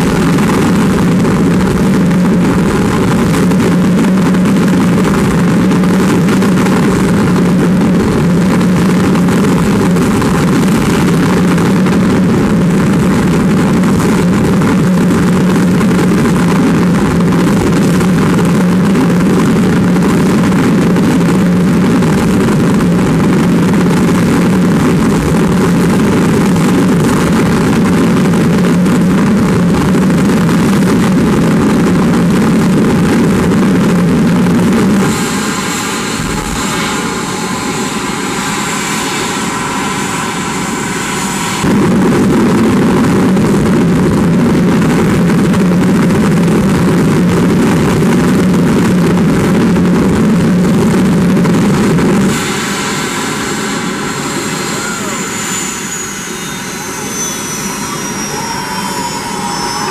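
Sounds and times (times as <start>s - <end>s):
jet engine roaring: 0.0s - 59.9s.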